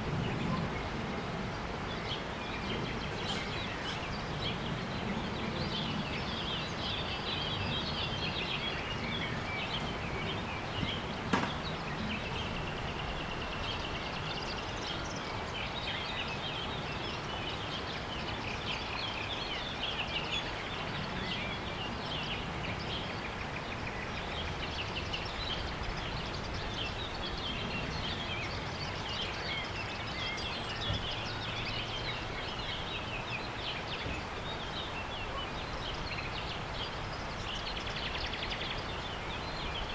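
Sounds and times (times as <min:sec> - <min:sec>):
steady background noise: 0:00.0 - 0:39.9
small birds chirping: 0:00.1 - 0:39.9.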